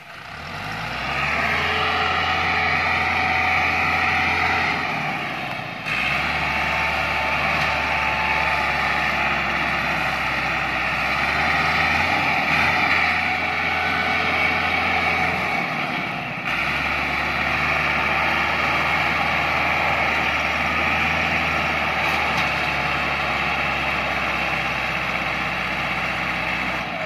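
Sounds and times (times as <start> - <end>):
low engine noise: 0.0 - 27.0.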